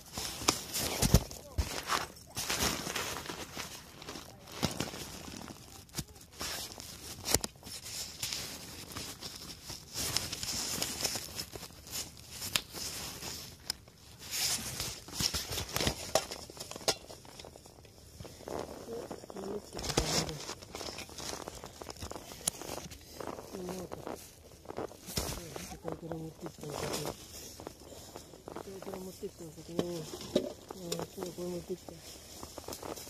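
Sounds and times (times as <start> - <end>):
tent fabric rustling: 0.0 - 33.0.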